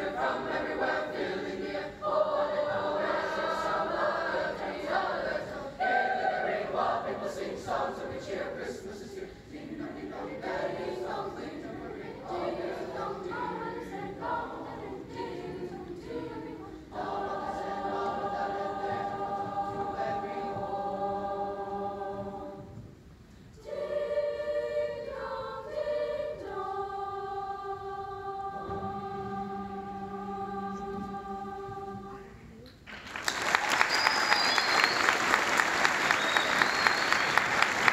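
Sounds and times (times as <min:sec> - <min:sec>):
children's choir singing: 0:00.0 - 0:23.0, 0:23.6 - 0:32.6.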